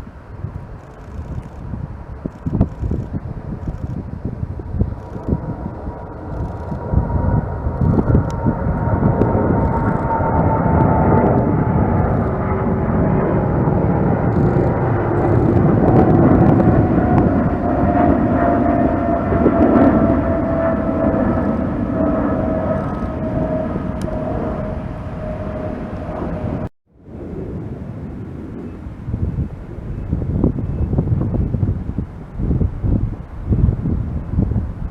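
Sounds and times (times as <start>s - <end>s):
jet airliner passing: 0.0s - 34.9s.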